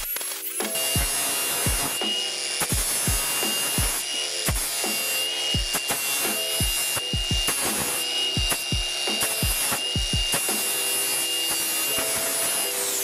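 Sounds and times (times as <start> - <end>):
electronic music with thumping beat: 0.0 - 10.9
angle grinder grinding metal: 0.0 - 13.0.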